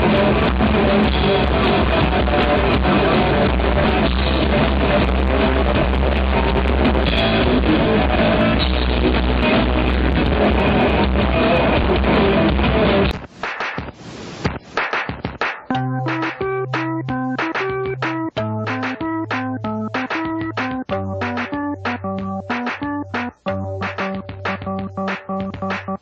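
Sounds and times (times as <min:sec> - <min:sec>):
electric guitar: 0:00.0 - 0:13.3, 0:15.1 - 0:26.0
drum kit: 0:00.0 - 0:26.0.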